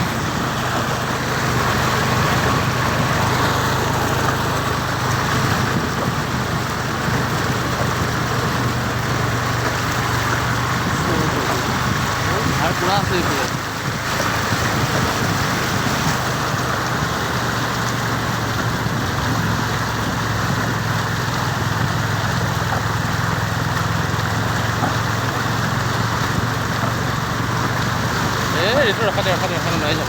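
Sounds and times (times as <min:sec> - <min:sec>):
vehicle engine humming: 0:00.0 - 0:30.0.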